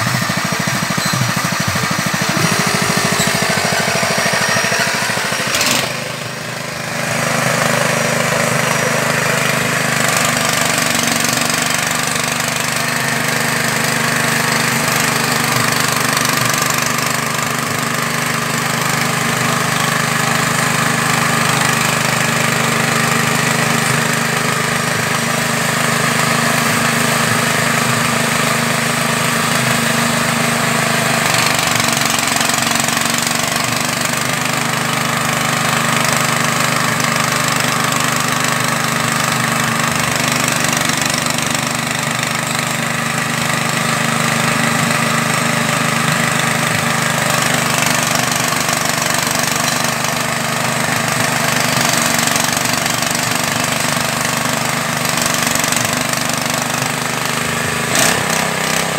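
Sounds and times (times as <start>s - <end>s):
small engine running under load: 0.0s - 58.9s.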